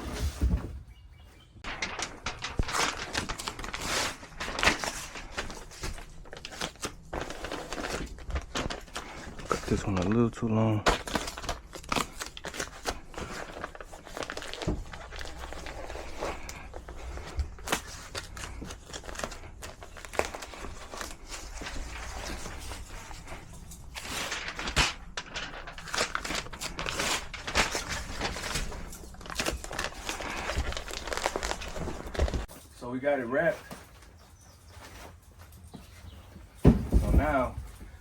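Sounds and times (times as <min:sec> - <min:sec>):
insulation wrap crinkling: 0:00.0 - 0:38.0.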